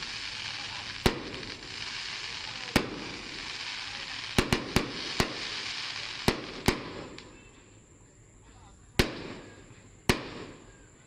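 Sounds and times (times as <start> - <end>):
fireworks bangs: 0.0 - 7.4, 9.0 - 10.9
steady hiss: 0.0 - 11.0.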